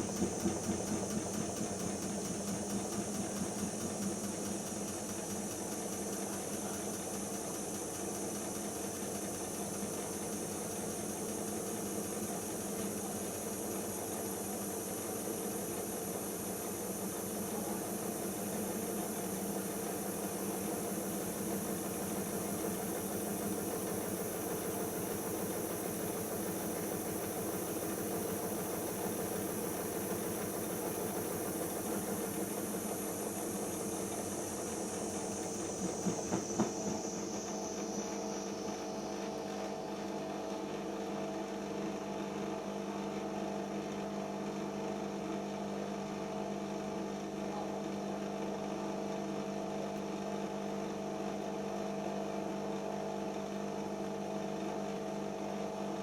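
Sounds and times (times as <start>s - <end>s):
washing machine hum: 0.0s - 56.0s.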